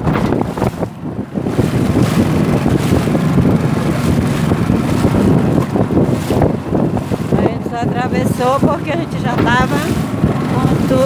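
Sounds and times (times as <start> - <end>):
choppy river water: 0.0 - 11.0
wind buffeting microphone: 0.0 - 11.0.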